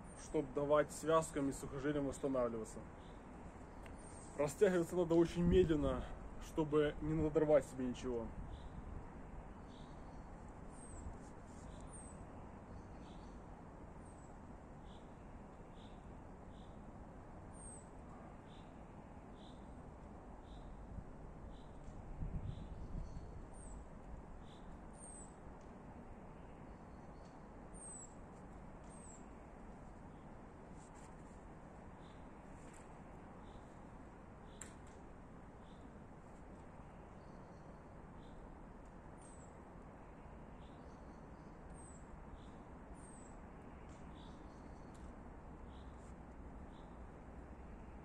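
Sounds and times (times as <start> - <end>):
small birds chirping: 0.0 - 16.9, 17.5 - 31.1, 31.8 - 38.5, 39.1 - 48.0
faint outdoor background noise: 0.0 - 48.0.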